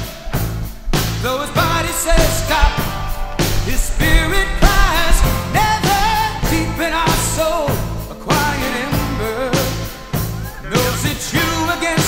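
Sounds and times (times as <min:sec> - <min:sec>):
rock song with sung vocals: 0:00.0 - 0:12.0.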